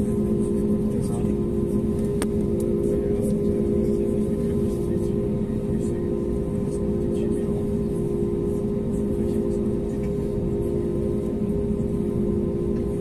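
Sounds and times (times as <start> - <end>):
aircraft cabin hum: 0.0 - 13.0.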